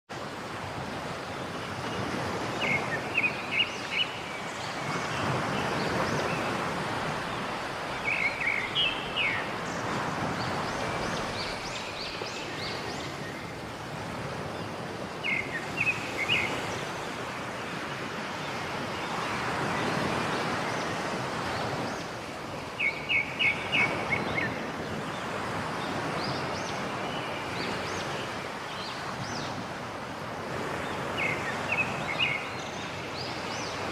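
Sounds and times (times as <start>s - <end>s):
rushing water: 0.1s - 33.9s.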